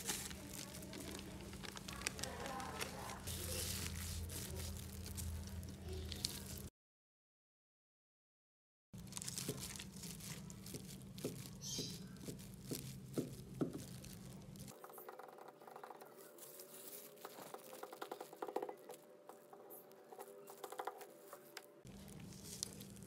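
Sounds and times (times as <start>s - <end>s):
plastic glove rustling: 0.0s - 6.7s, 9.0s - 23.0s.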